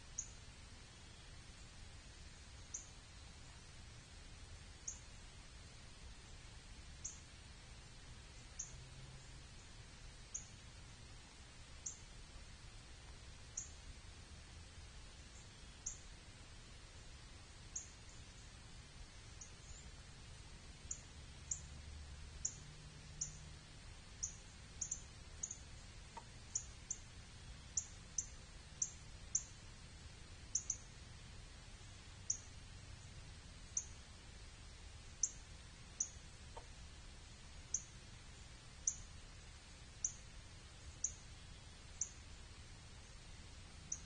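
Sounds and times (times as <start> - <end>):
faint low rumble: 0.0 - 44.0.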